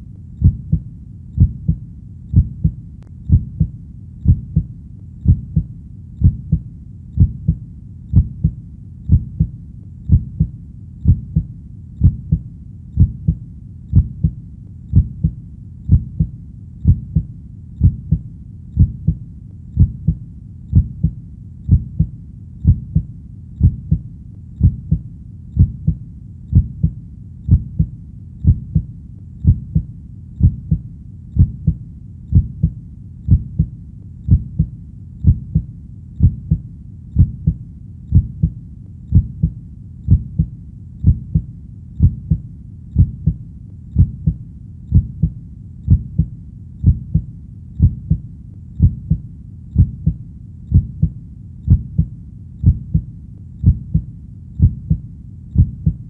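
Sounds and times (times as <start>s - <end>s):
faint low rumble: 0.0s - 56.0s
heartbeat thumps: 0.0s - 56.0s.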